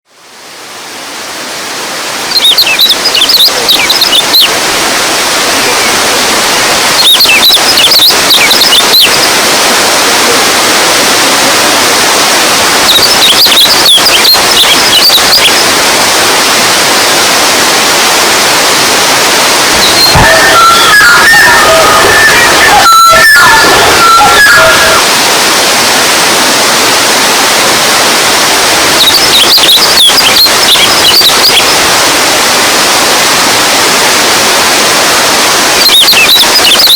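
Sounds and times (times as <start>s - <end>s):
running water rushing: 0.1s - 36.9s.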